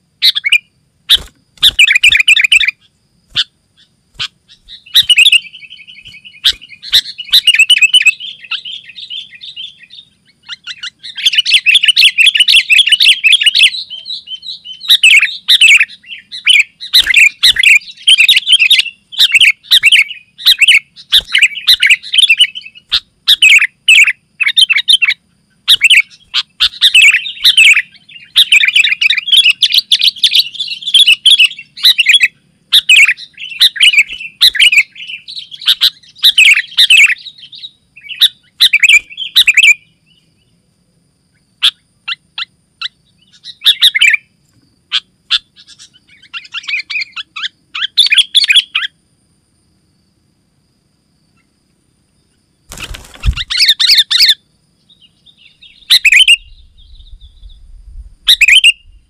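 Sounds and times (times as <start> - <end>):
bird chirping: 0.0 - 40.6, 41.2 - 49.0, 51.2 - 59.0.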